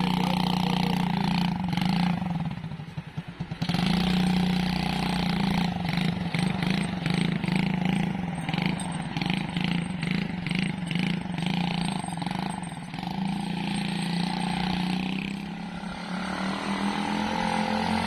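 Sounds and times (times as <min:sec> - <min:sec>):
small quad bike engine: 0:00.0 - 0:18.0.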